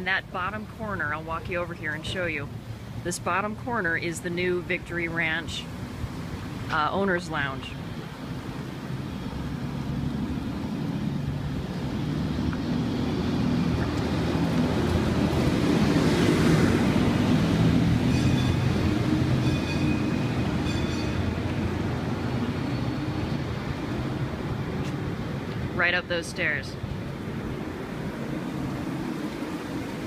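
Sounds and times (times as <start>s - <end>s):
heavy vehicle engine humming: 0.0s - 30.0s
street noise: 0.0s - 30.0s.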